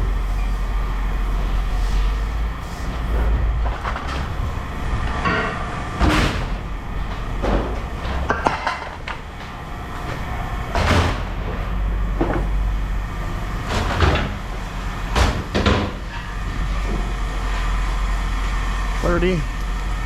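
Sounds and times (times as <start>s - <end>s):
scrap metal clanks and bangs: 0.0s - 19.2s
steady low hum: 0.0s - 20.0s.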